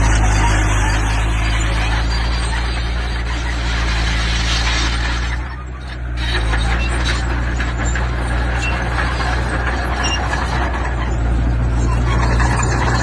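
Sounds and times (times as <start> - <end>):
heavy diesel machinery running: 0.0 - 13.0
knocks and clatter: 0.0 - 13.0.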